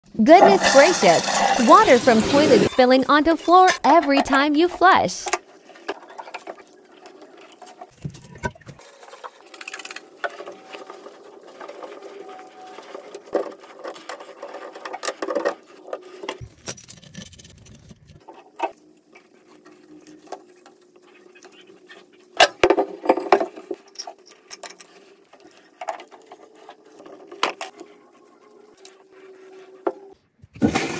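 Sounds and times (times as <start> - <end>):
hand tools clicking and scraping: 0.2 - 8.0, 8.8 - 30.9.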